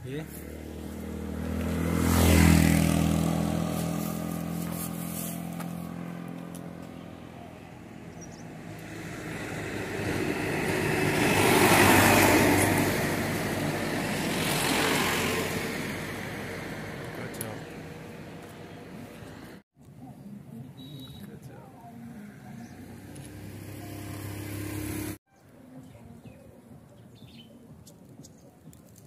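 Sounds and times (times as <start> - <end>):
vehicles passing by: 0.0 - 29.0.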